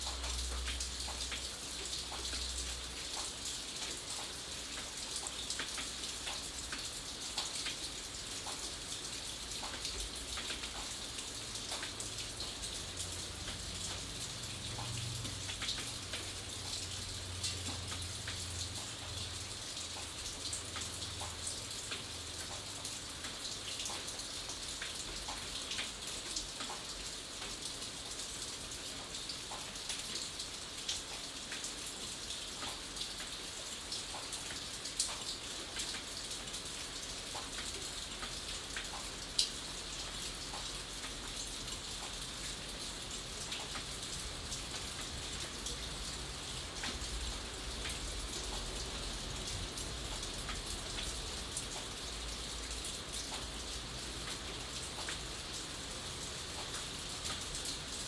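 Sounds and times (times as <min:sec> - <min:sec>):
raindrops ticking on a surface: 0:00.0 - 0:58.0
steady rain: 0:00.0 - 0:58.0.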